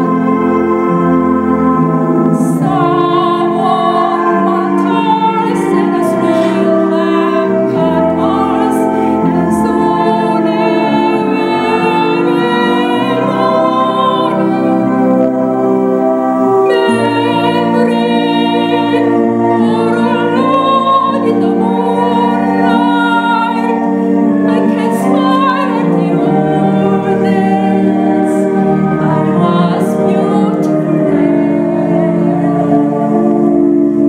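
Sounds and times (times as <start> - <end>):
instrumental accompaniment: 0.0 - 34.0
woman singing a slow song: 2.4 - 15.0, 16.6 - 32.8.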